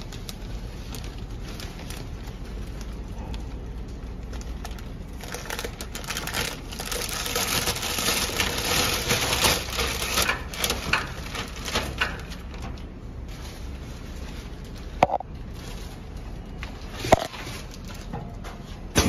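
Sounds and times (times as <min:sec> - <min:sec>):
plastic film crinkling: 0:00.0 - 0:18.4.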